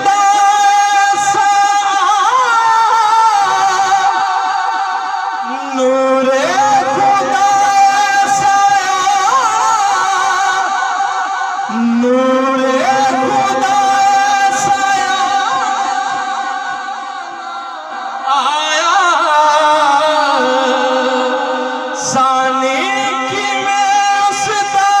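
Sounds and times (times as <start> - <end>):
man singing through a microphone: 0.0 - 25.0.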